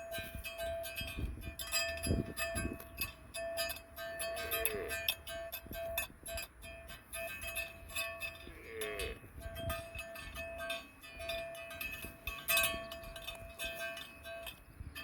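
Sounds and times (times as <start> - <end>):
cowbells clanking: 0.0 - 15.0.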